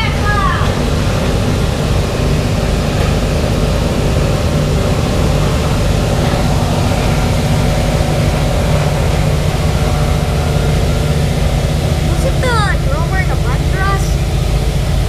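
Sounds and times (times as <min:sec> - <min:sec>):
aircraft radial engines droning: 0:00.0 - 0:15.0.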